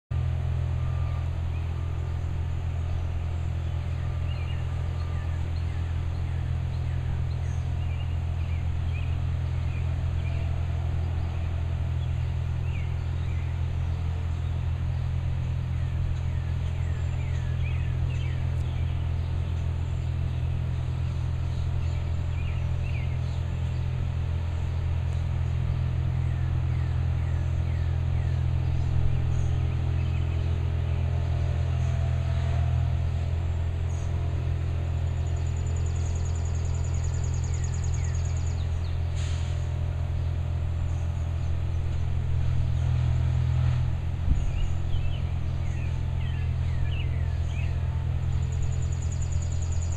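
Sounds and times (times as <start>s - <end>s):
distant engine drone: 0.1s - 49.9s
small birds chirping: 0.6s - 32.2s, 33.0s - 49.9s.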